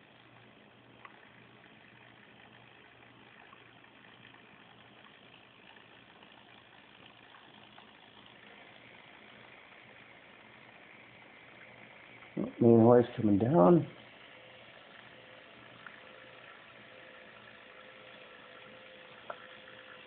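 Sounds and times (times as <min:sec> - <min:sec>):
small electric motor humming: 0:00.0 - 0:20.0.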